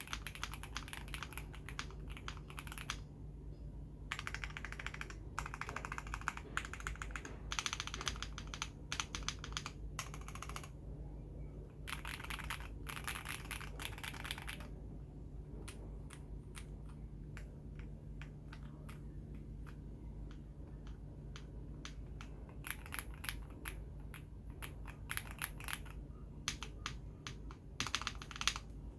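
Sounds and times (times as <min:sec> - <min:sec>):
mechanical keyboard typing: 0:00.0 - 0:03.0, 0:04.1 - 0:10.8, 0:11.8 - 0:14.8, 0:15.6 - 0:19.0, 0:19.6 - 0:28.7.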